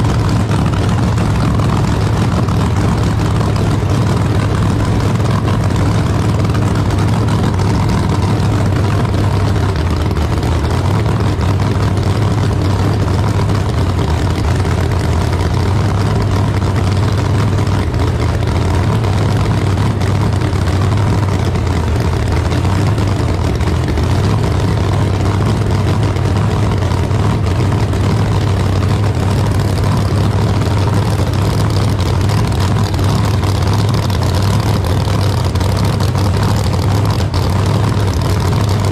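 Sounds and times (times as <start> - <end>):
racing car engine idling loudly: 0.0 - 38.9.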